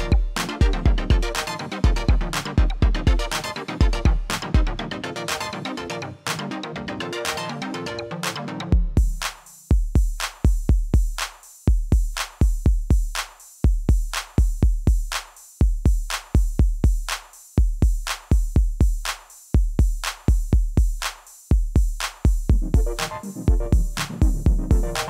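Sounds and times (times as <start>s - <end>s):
electronic drum machine beat: 0.0s - 25.0s.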